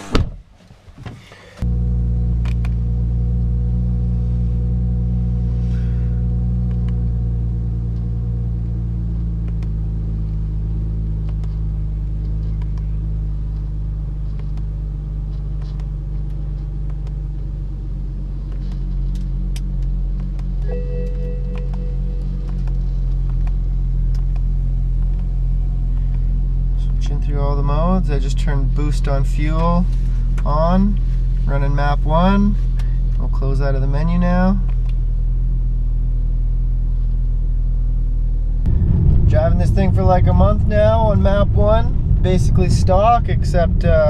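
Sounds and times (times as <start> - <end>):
car engine idling: 1.4 - 44.0.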